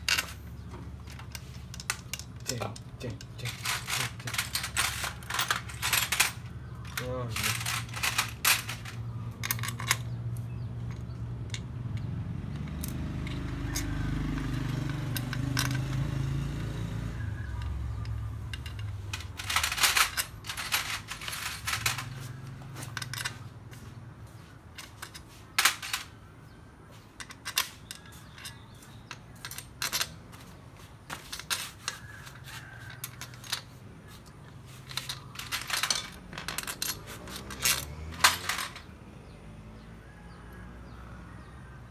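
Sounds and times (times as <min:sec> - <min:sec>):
metal tools clinking and tapping: 0:00.0 - 0:16.3, 0:17.2 - 0:23.9, 0:24.7 - 0:26.2, 0:27.0 - 0:38.9.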